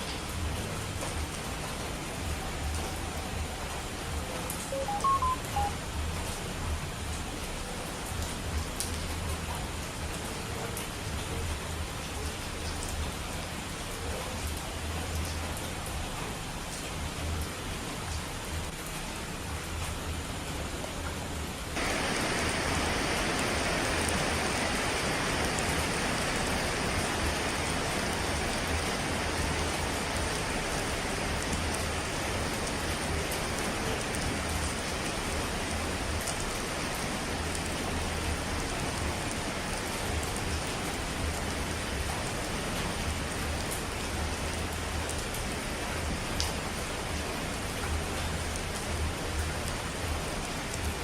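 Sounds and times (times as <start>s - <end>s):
faint raindrop ticks: 0.0s - 19.1s, 21.8s - 51.0s
heavy rain falling: 0.0s - 51.0s.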